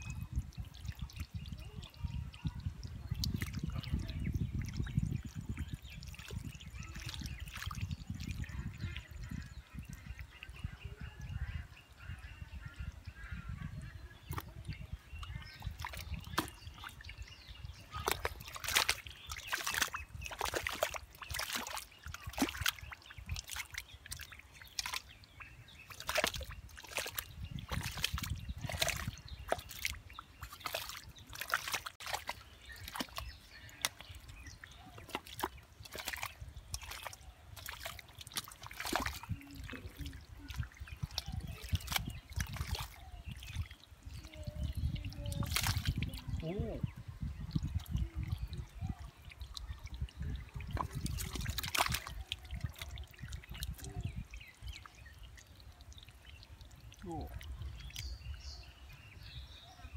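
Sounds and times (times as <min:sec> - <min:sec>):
splashing in muddy water: 0:00.0 - 0:59.9.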